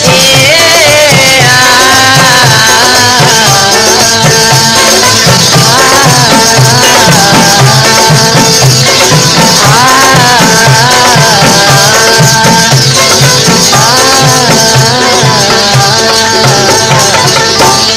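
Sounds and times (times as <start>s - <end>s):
hand drums beating: 0.0s - 17.9s.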